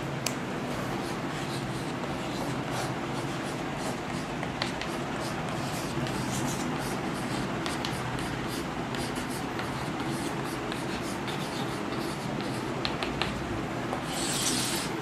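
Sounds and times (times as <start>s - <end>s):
background hiss and hum: 0.0s - 15.0s
chalk scratching on chalkboard: 1.0s - 13.0s, 14.0s - 15.0s.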